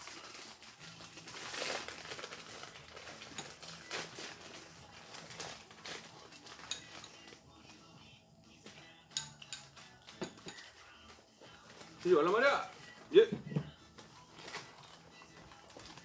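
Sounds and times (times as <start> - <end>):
plastic packets crinkling: 0.0 - 7.9, 9.4 - 13.2, 13.8 - 16.0.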